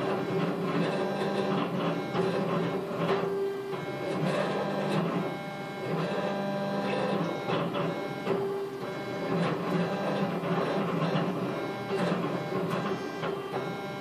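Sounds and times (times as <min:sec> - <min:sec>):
laser cutter motors whining: 0:00.0 - 0:14.0.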